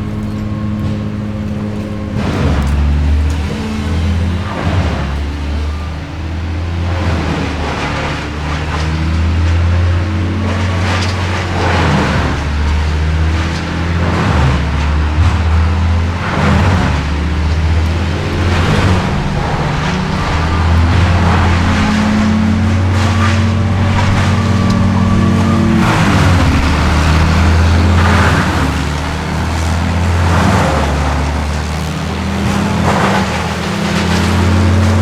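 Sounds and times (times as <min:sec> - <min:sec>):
large engine running: 0:00.0 - 0:35.0
rushing surges: 0:00.0 - 0:35.0.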